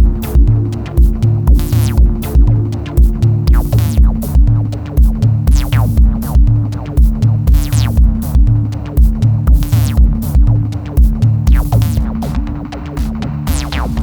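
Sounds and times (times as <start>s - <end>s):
electronic music with drum-machine beat: 0.0s - 14.0s.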